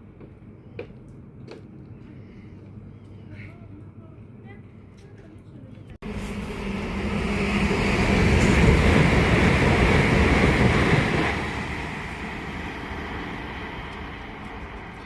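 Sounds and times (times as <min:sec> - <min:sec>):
train rumble and rail noise: 0:00.0 - 0:15.0.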